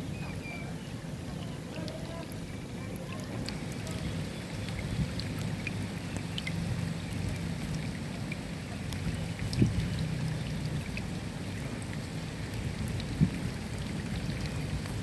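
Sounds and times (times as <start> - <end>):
rain falling: 1.0 - 15.0.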